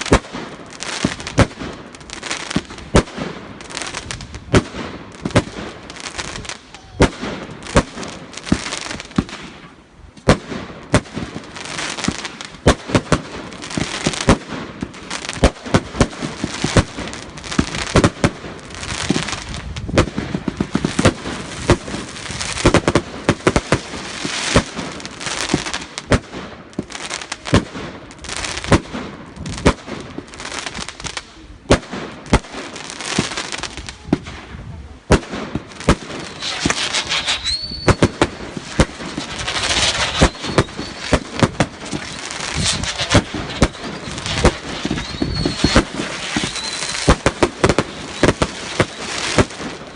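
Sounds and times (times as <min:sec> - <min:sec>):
fireworks bangs and pops: 0:00.0 - 0:49.9
fireworks crackling hiss: 0:00.0 - 0:49.9.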